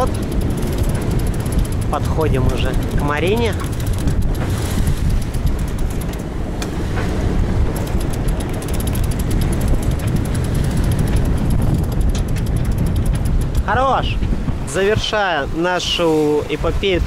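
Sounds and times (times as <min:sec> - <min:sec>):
water rushing past hull: 0:00.0 - 0:17.0
wind buffeting microphone: 0:00.0 - 0:17.0.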